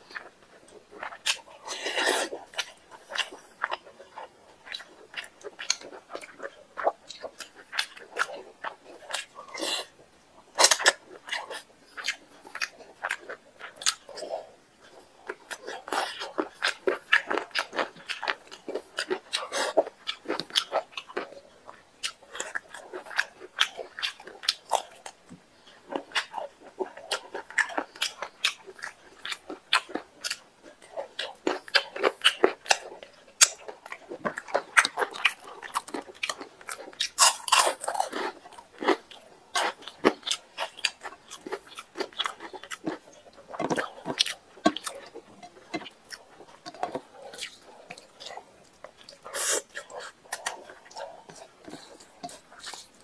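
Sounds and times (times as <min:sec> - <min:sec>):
wet chewing and mouth smacks: 0:00.0 - 0:53.0.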